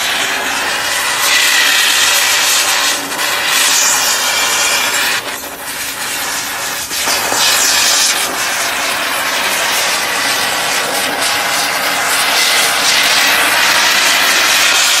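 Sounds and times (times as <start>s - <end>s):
blowtorch flame hissing: 0.0s - 15.0s.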